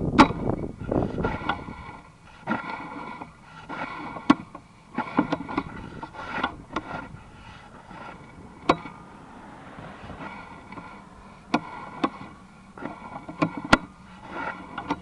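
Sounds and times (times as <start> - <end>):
rough scraping: 1.1 - 14.9.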